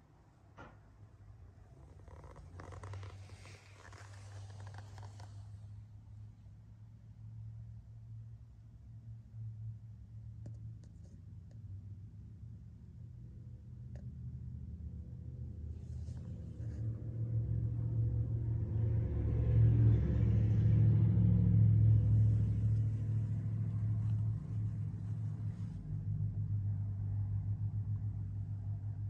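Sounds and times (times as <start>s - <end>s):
vehicle engine rumble: 1.4s - 8.4s, 9.0s - 29.0s.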